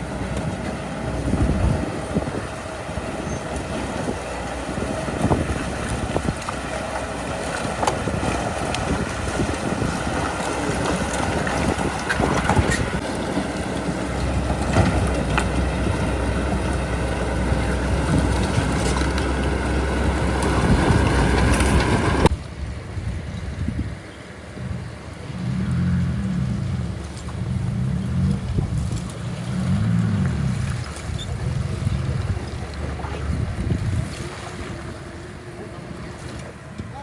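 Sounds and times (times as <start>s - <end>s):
bulldozer diesel engine: 0.0s - 23.3s, 23.9s - 37.0s
quieter engine noise: 0.0s - 37.0s.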